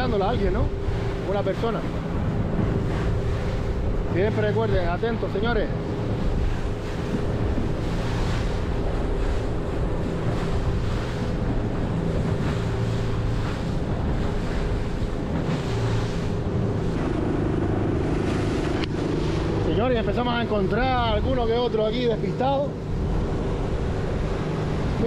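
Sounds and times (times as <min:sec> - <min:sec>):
boat engine hum: 0:00.0 - 0:25.0
water rushing past hull: 0:00.0 - 0:25.0
wind buffeting microphone: 0:00.0 - 0:25.0.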